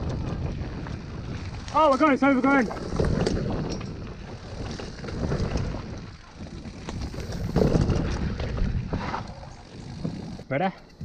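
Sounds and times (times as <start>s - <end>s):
bike clicks and rattles: 0.0s - 11.0s
wind buffeting microphone: 0.0s - 11.0s.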